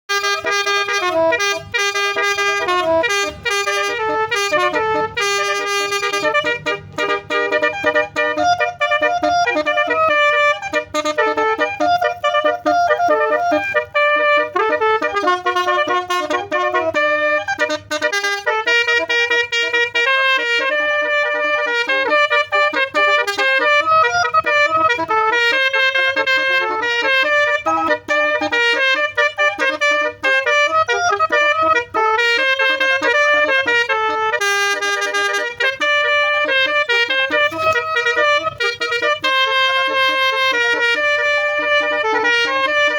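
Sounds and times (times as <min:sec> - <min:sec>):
multi-tone truck horn playing a tune: 0:00.1 - 0:42.9.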